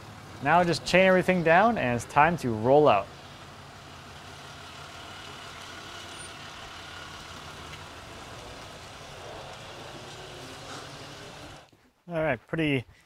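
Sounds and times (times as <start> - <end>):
pickup truck engine running: 0.0 - 11.7.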